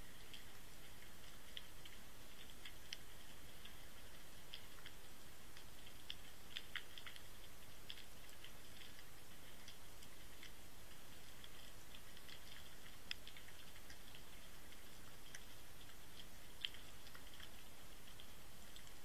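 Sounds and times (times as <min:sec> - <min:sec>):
faint clicks and ticks: 0:00.0 - 0:19.0.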